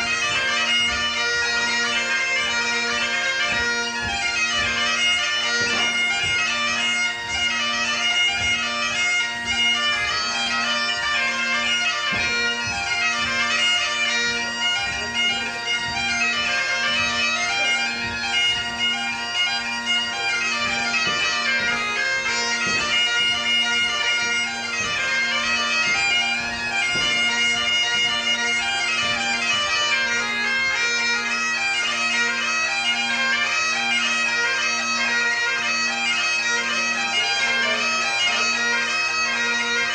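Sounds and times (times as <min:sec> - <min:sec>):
bagpipe playing a dance tune: 0:00.0 - 0:39.9.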